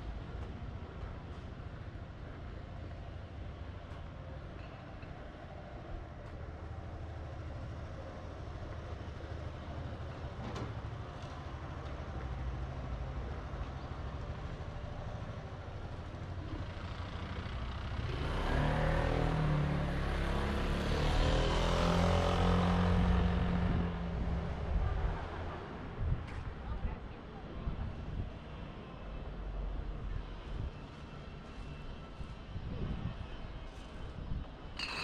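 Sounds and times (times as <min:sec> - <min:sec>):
nearby vehicle engine and tyres: 0:00.0 - 0:24.5, 0:30.2 - 0:35.0
city traffic hum: 0:00.0 - 0:35.0.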